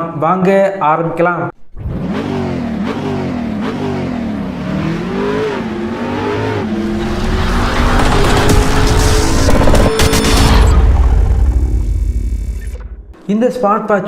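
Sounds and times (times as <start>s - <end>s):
car engine revving: 1.7s - 13.2s.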